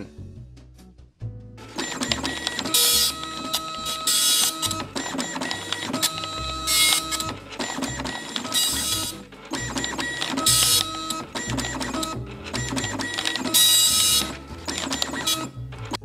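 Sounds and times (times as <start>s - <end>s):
dot matrix print head buzzing: 1.7s - 16.0s
printer motor whine: 1.7s - 16.0s.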